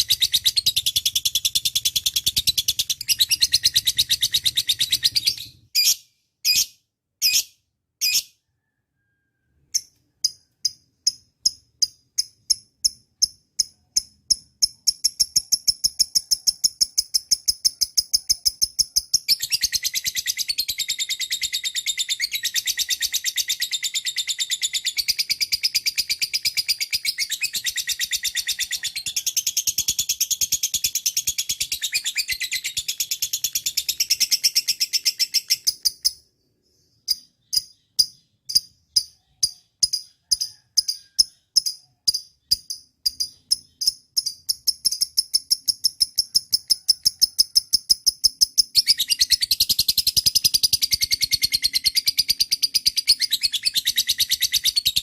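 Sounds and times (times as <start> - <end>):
lovebird chirping: 0.0 - 55.0.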